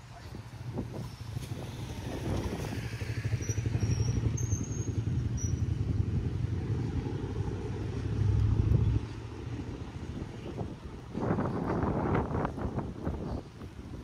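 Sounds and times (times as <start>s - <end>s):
wind buffeting microphone: 0.1s - 14.0s.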